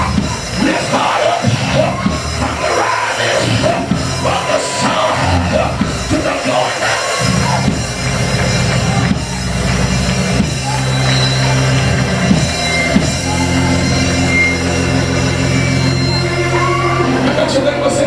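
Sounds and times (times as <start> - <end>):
church band playing: 0.0 - 18.0.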